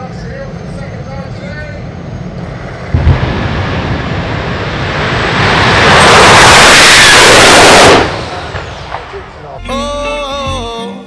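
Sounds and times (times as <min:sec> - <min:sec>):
sudden engine blast: 0:00.0 - 0:09.6.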